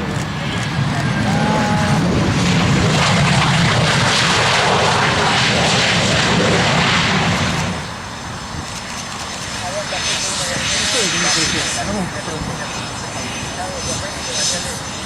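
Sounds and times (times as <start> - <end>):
airliner engines rushing: 0.0 - 15.0.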